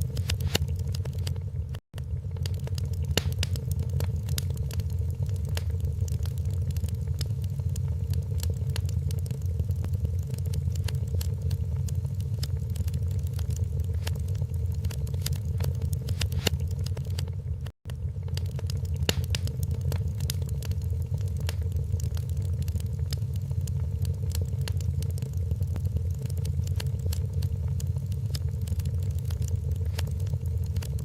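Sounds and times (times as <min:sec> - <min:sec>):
fire pops and snaps: 0:00.0 - 0:31.0
low steady rumble: 0:00.0 - 0:31.0
wood fire crackling: 0:00.0 - 0:31.0.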